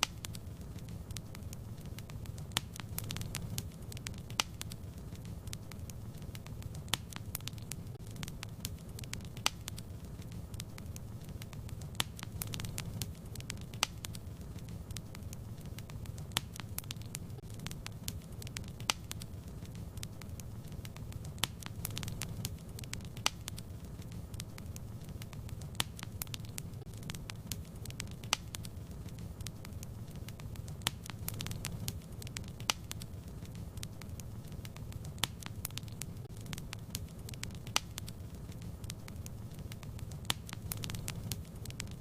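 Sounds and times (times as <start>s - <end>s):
fire flames rumbling: 0.0s - 42.0s
fire popping and crackling: 0.0s - 42.0s.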